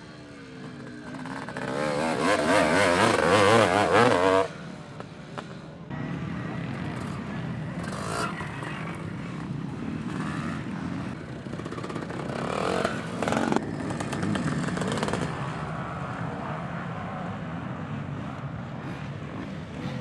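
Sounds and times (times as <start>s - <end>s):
motorcycles racing and revving: 0.0s - 20.0s.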